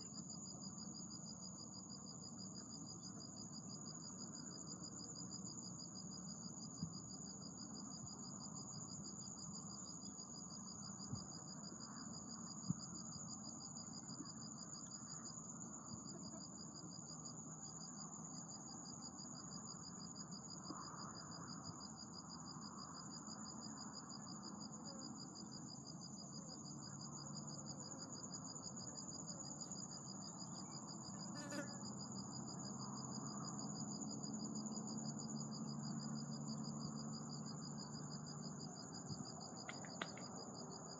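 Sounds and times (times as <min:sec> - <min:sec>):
insects trilling: 0:02.8 - 0:40.9.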